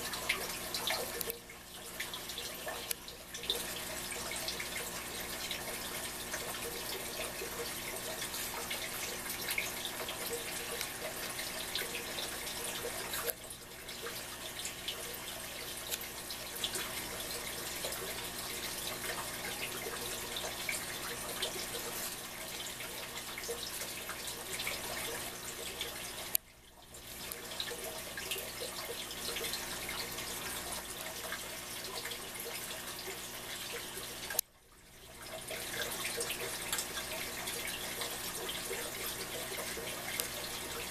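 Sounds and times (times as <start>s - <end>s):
aquarium water bubbling: 0.0s - 40.9s.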